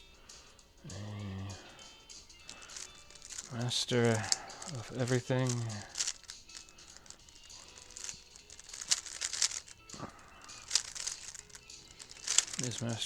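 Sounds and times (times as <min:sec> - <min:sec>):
puzzle cube plastic clicking: 0:02.2 - 0:13.0.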